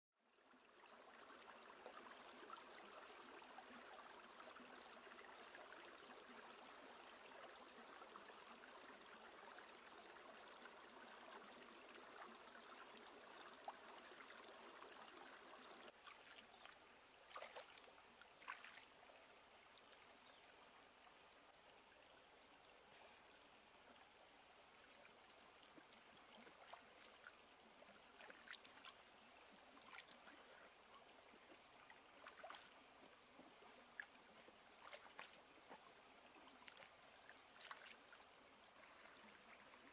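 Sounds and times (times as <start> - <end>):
stream running over rocks: 0.5 - 39.9.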